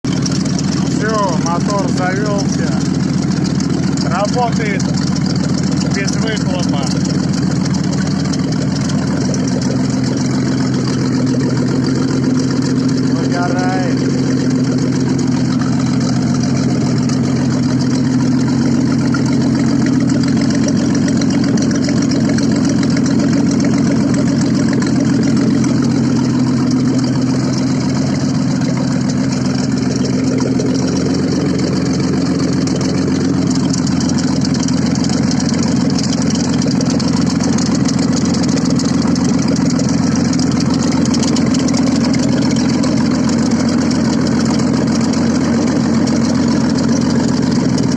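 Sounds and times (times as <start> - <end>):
car engine idling without exhaust: 0.1 - 47.9.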